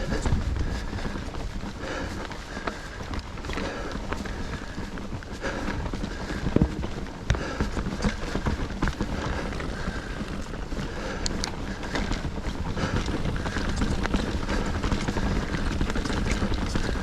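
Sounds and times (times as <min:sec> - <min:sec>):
bike chain clicks and rattles: 0:00.0 - 0:17.0
tyres rumbling on rocky trail: 0:00.0 - 0:17.0
wind on microphone: 0:00.0 - 0:17.0.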